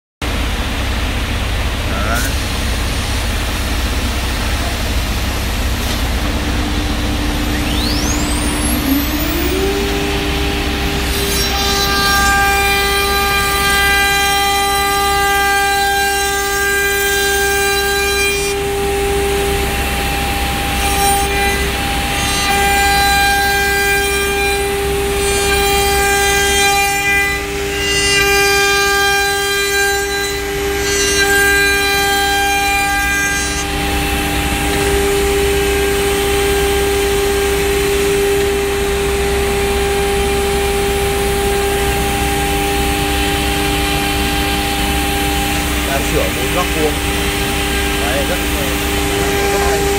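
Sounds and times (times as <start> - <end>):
router spindle whine: 0.2 - 49.9.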